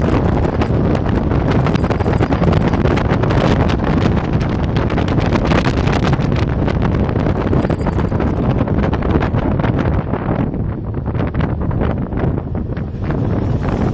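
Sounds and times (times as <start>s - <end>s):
boat engine: 0.0s - 13.9s
wind buffeting microphone: 0.0s - 13.9s.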